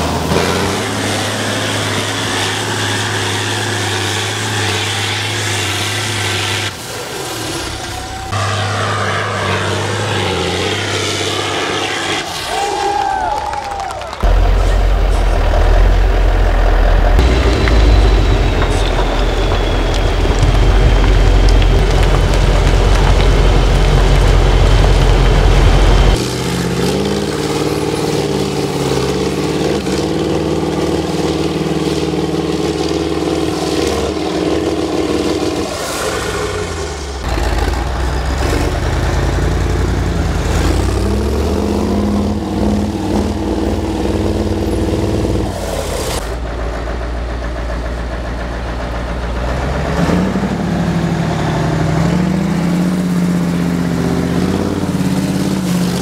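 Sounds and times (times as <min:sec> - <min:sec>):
diesel truck engines revving: 0:00.0 - 0:56.0.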